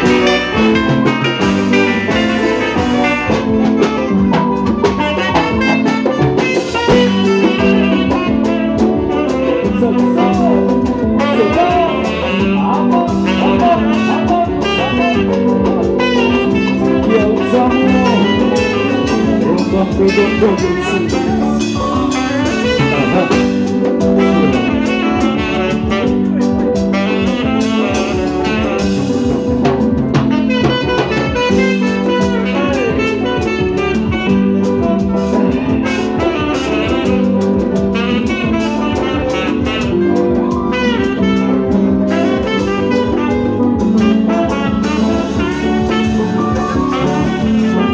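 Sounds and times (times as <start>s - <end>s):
live band playing: 0.0s - 47.9s
saxophones: 0.0s - 47.9s.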